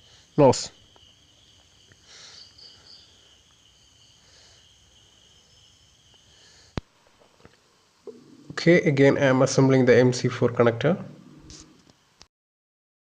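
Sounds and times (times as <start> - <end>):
insects trilling: 0.0 - 12.2.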